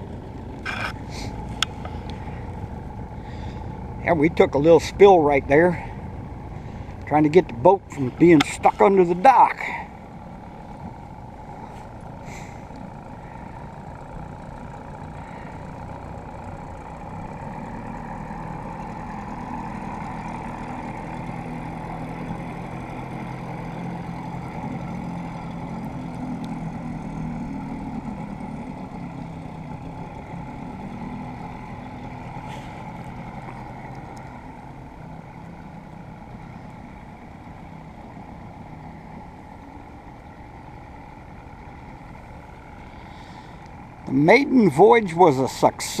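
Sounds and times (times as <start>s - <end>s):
outboard motor running: 0.0s - 46.0s.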